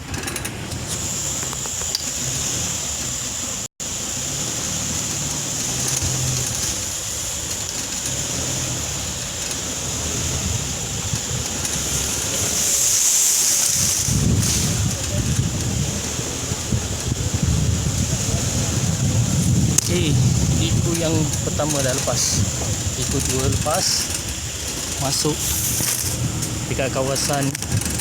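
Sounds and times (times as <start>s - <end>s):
off-road vehicle engine running: 0.0s - 28.0s
constant hiss: 0.1s - 28.0s.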